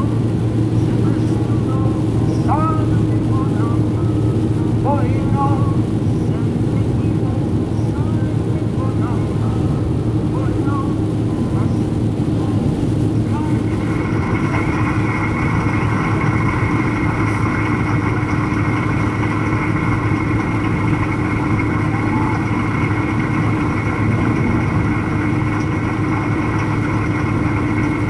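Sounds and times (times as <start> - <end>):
car interior engine and tyre drone: 0.0 - 28.0.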